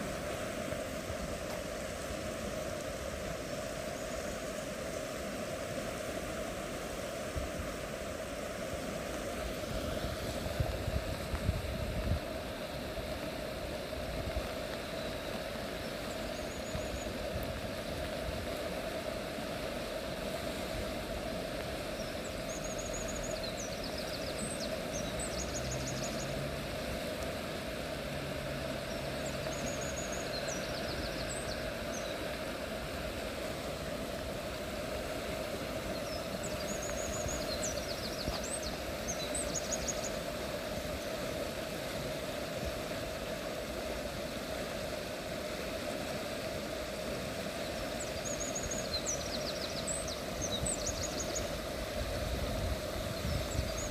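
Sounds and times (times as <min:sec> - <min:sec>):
river rushing: 0:00.0 - 0:53.9.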